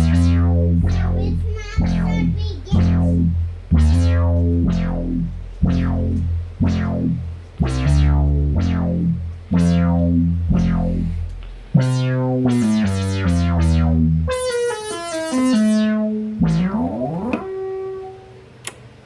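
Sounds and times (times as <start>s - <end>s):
synthesizer low bass notes: 0.0s - 18.3s.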